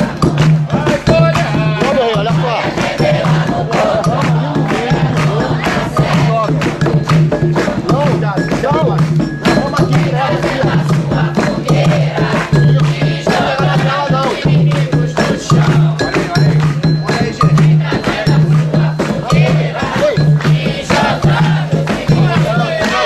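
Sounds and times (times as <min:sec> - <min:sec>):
group of voices chanting: 0:00.0 - 0:08.6, 0:09.4 - 0:23.0
hand drums beating: 0:00.0 - 0:23.0.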